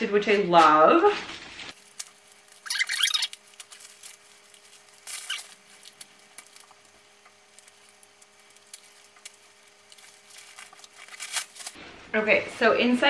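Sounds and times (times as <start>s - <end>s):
plastic wrapping rustling and squeaking: 0.7s - 11.8s.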